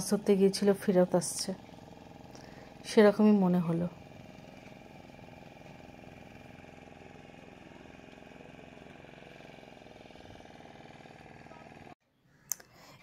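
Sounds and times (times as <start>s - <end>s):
faint boat engine chugging: 0.0s - 12.0s.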